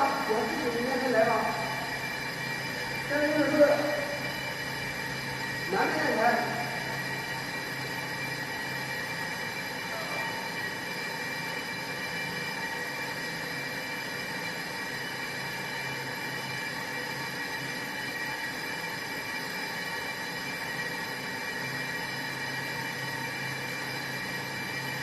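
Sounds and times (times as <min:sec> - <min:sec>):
brake lathe metallic whine: 0:00.0 - 0:25.0.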